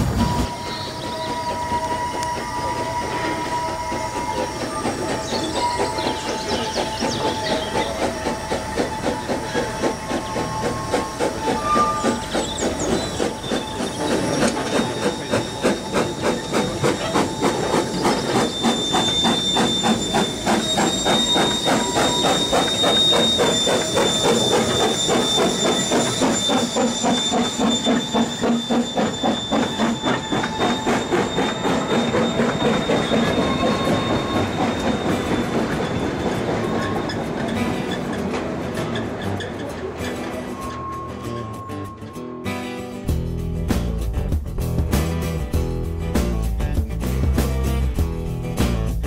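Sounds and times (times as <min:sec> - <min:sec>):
hissing steam: 0:00.0 - 0:39.4
wheels squealing on curve: 0:00.0 - 0:42.7
steam locomotive chuffing: 0:00.0 - 0:49.0
wheels clicking over rails: 0:00.4 - 0:41.4.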